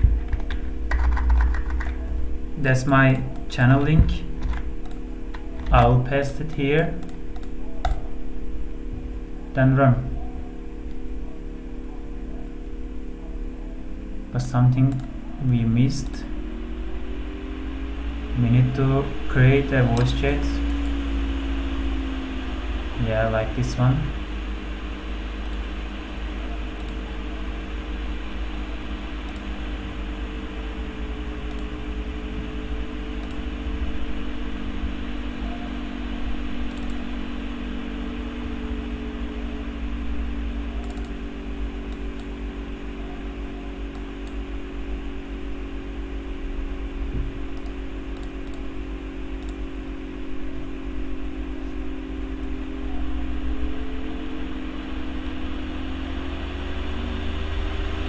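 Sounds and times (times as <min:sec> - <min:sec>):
computer fan humming: 0:00.0 - 0:58.0.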